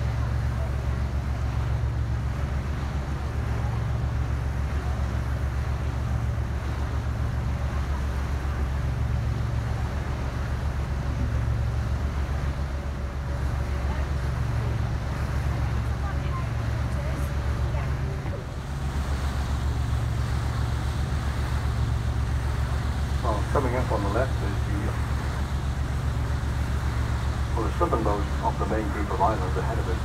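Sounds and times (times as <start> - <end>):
boat engine throbbing: 0.0 - 30.0
water and wind hiss: 0.0 - 30.0.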